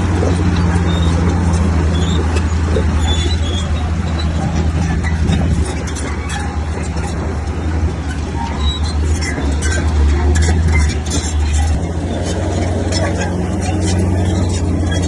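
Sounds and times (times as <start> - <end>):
diesel engine running under load: 0.0 - 15.0
metallic clinks and clanks: 0.0 - 15.0.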